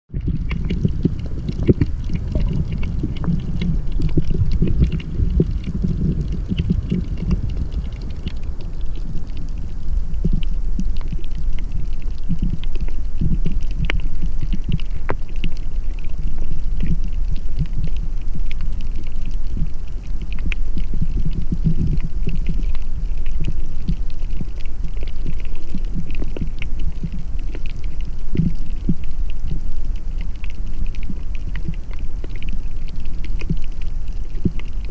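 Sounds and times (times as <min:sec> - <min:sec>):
crackling clicks: 0:00.1 - 0:34.9
underwater rumble of moving water: 0:00.1 - 0:34.9.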